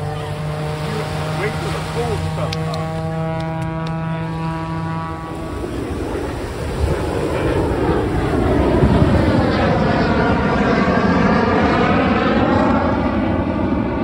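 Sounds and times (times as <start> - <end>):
aircraft engine rushing overhead: 0.0 - 14.0.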